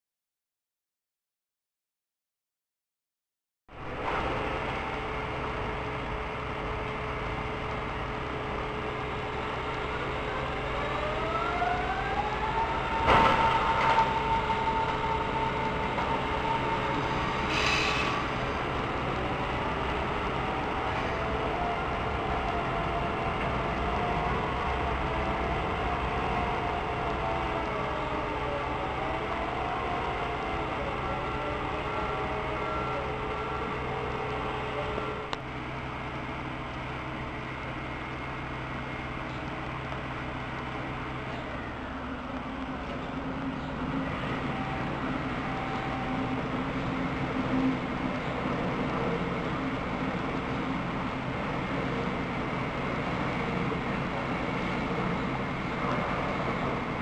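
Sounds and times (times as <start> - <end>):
electric train whine: 3.7 - 57.0
station traffic rumble: 3.7 - 57.0.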